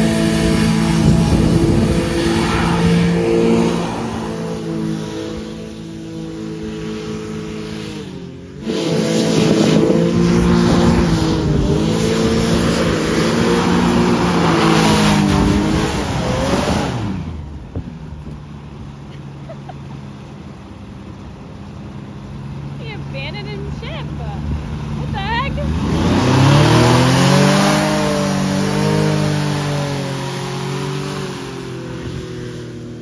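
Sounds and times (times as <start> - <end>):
hovercraft engine and fan: 0.0 - 33.0.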